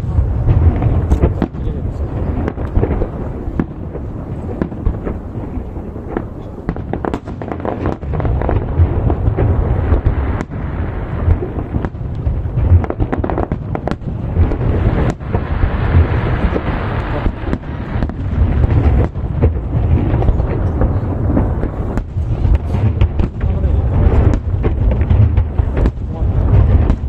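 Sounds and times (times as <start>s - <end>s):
booms echoing: 0.0s - 27.0s
fireworks cracks and bangs: 0.0s - 27.0s.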